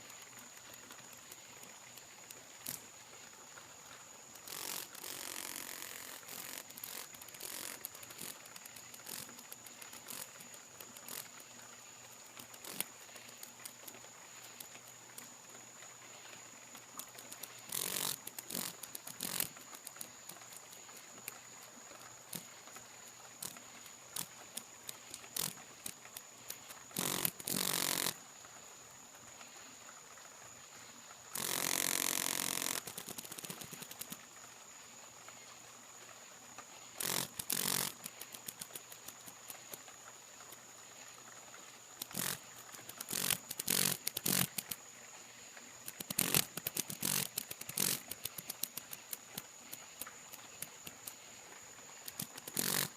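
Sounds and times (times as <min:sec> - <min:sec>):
cicada buzzing in bursts: 0:00.0 - 0:28.3, 0:31.2 - 0:34.8, 0:36.9 - 0:40.0, 0:41.9 - 0:52.9.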